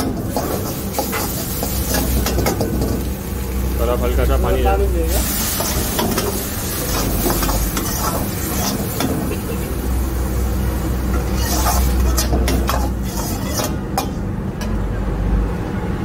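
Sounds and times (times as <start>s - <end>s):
ladle scraping and knocking wok: 0.0s - 3.6s, 5.1s - 14.8s
stir-fry sizzling in wok: 0.0s - 14.8s
gas burner rumble: 0.0s - 16.0s.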